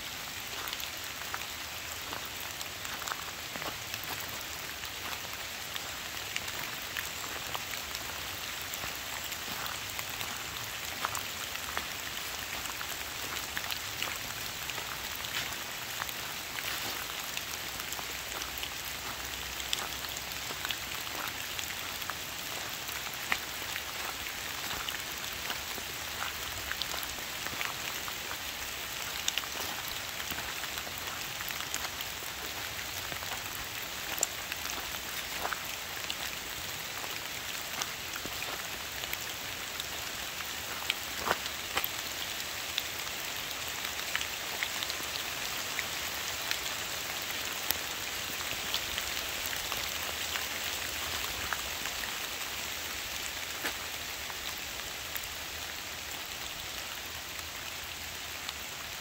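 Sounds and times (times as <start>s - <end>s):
rain falling on trees and leaves: 0.0s - 59.0s.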